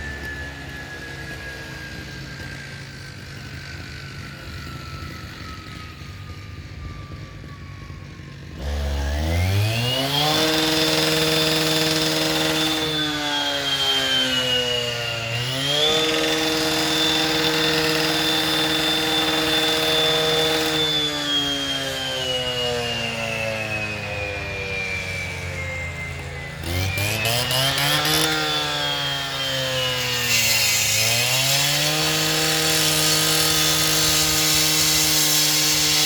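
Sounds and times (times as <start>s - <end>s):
engine-driven saw whining: 0.0s - 36.0s.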